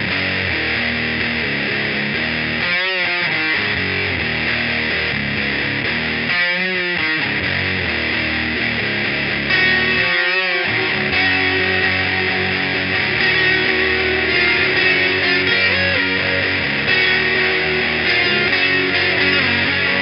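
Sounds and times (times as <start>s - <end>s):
distorted electric guitar riff: 0.0s - 20.0s.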